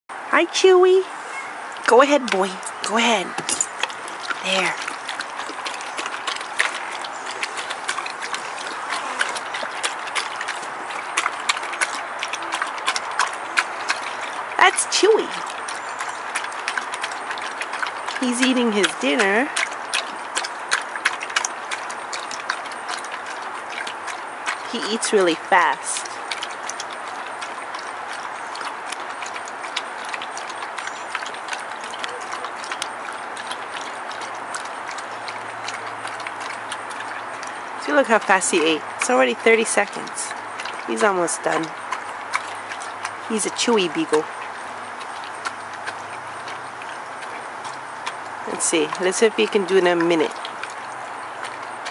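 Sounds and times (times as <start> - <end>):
dog crunching kibble in metal bowl: 1.8 - 51.9.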